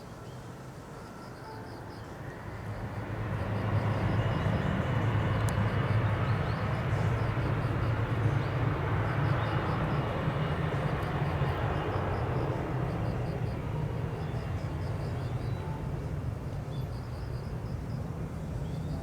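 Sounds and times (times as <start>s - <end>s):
jet airliner passing overhead: 2.1s - 19.0s.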